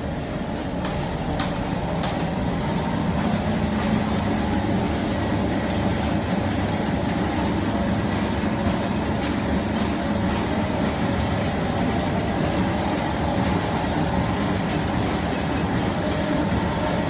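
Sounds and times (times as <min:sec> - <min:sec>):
bag cutting machine running: 0:00.0 - 0:17.0.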